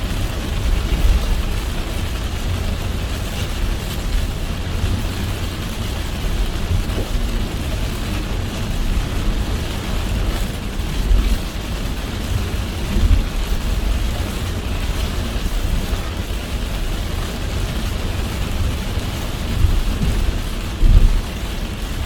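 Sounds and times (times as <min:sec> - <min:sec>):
car engine and tyres on wet road: 0:00.0 - 0:22.0
rain hissing: 0:00.0 - 0:22.0.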